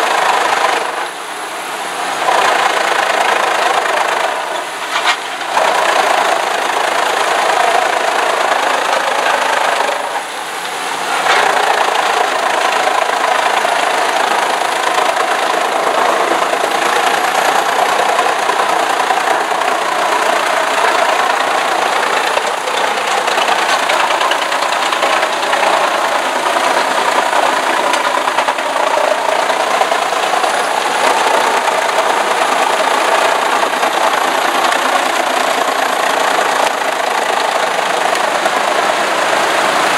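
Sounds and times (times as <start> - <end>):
wood chipper chipping branches: 0.0 - 39.9.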